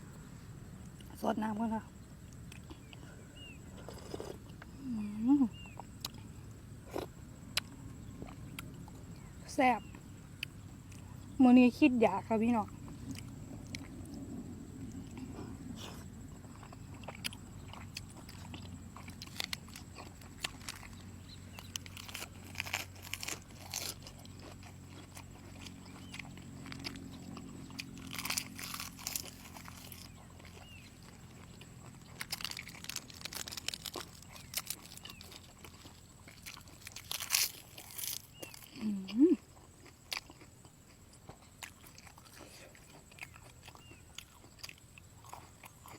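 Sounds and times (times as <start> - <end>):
chewing with wet smacking: 2.2 - 4.7, 5.5 - 11.4, 12.2 - 45.9.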